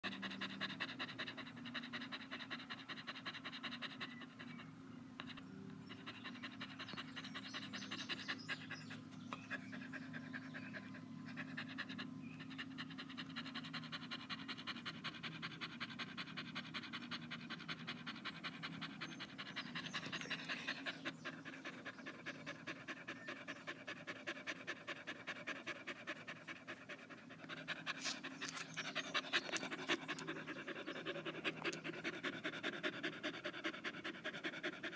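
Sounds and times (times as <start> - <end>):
dog panting fast: 0.0 - 34.9.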